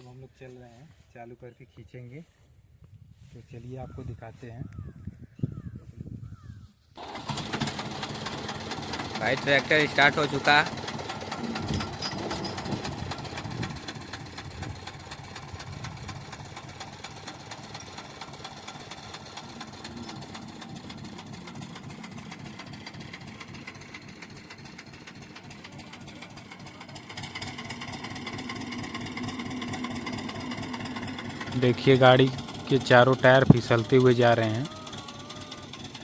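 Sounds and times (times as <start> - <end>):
tractor diesel engine knocking: 7.0 - 36.0.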